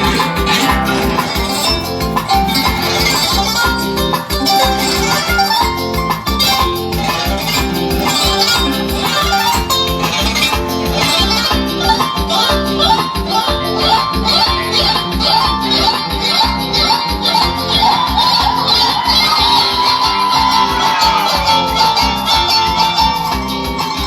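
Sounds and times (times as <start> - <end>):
latin music with plucked strings: 0.0 - 24.0.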